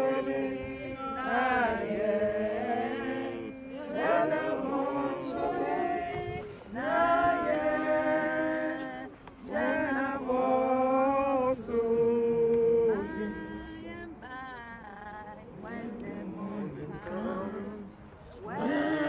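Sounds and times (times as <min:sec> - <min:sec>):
group singing a hymn: 0:00.0 - 0:19.0.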